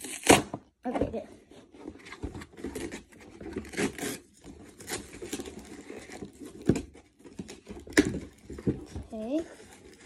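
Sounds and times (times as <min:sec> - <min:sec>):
cardboard scraping and tearing: 0:00.0 - 0:00.6, 0:01.8 - 0:10.0.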